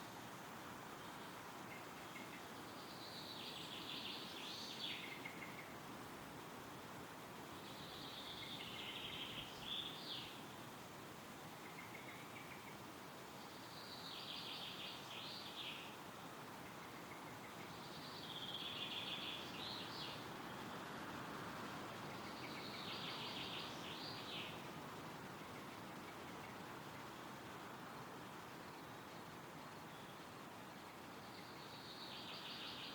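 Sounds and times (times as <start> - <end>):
songbird singing: 0.0 - 32.9
wind through trees: 0.0 - 32.9.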